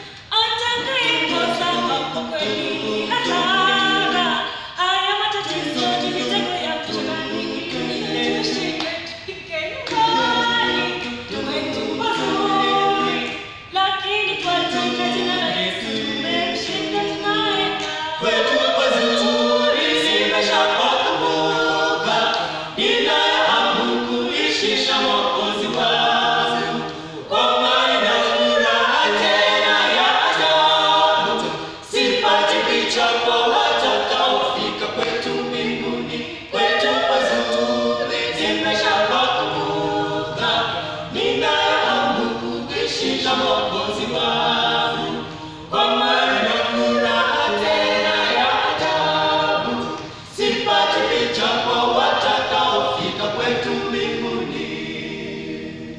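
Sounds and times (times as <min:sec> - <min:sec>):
group singing in harmony: 0:00.0 - 0:55.9.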